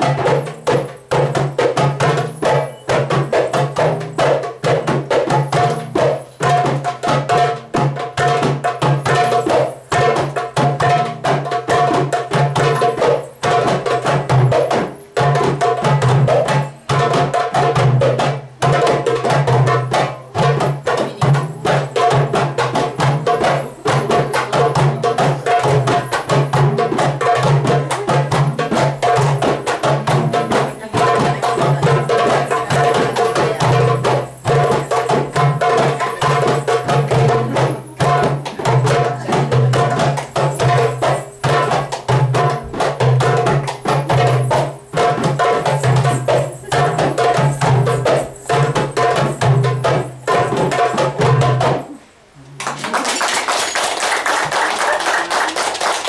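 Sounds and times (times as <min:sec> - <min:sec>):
goblet drum solo: 0:00.0 - 0:52.1.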